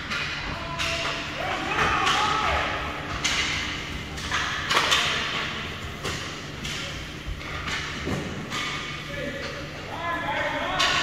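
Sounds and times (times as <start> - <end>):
hockey sticks and puck knocking: 0.0 - 9.6, 10.6 - 11.0
indoor rink rumble: 0.0 - 11.0.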